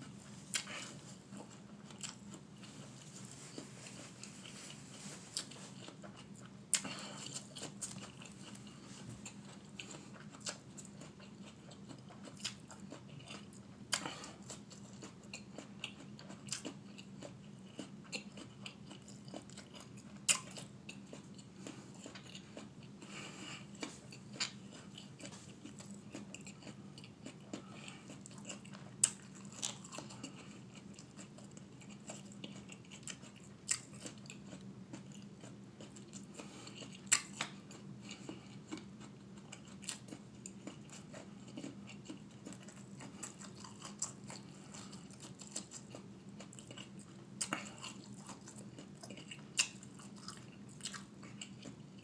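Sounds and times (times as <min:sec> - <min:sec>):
chewing crisp apple: 0:00.0 - 0:52.0
steady low hum: 0:00.0 - 0:52.0.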